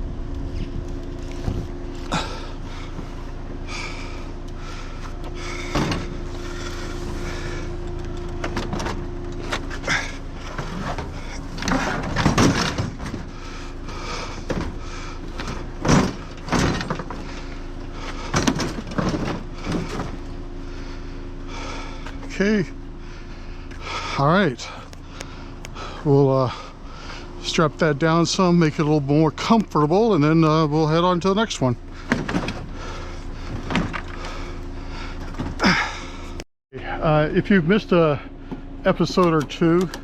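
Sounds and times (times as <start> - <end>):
vehicle idling hum: 0.0 - 40.0.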